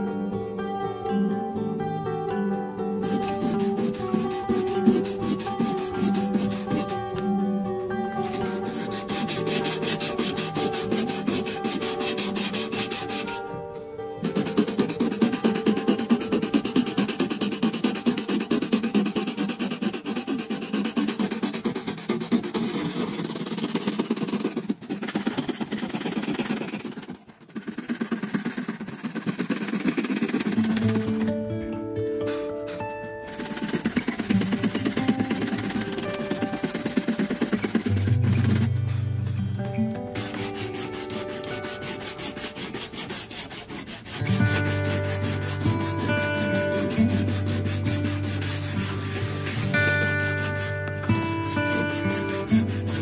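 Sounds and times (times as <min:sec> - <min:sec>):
sandpaper scraping on plastic: 0:03.0 - 0:07.1, 0:08.2 - 0:13.4, 0:14.2 - 0:31.3, 0:32.3 - 0:38.7, 0:40.1 - 0:53.0.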